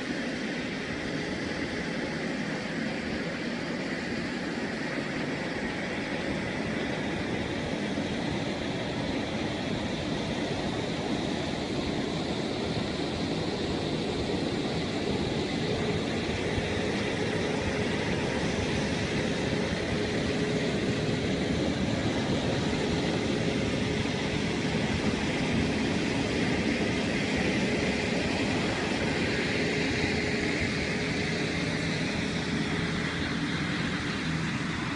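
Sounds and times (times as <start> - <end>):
faint steady whine: 0.0 - 34.9
truck diesel engine running: 6.6 - 34.9.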